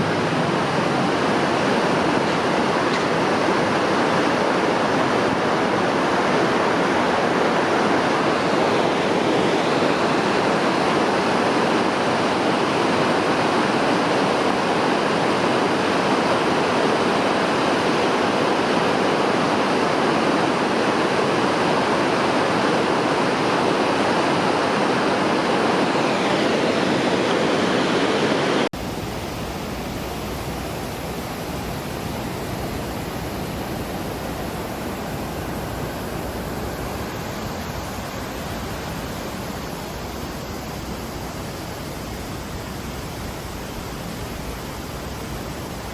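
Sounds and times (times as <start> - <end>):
river rushing over rocks: 0.0 - 45.9.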